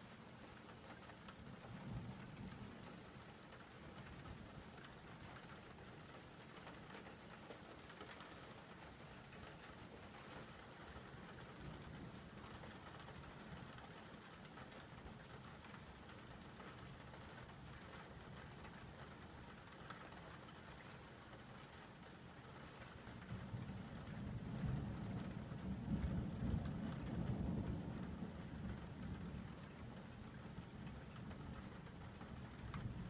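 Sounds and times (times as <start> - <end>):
faint steady rain: 0.0 - 33.0.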